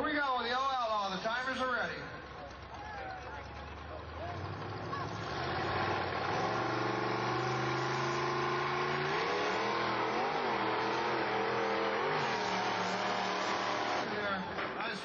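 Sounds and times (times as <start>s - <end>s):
buggy engine revving: 1.1s - 15.0s.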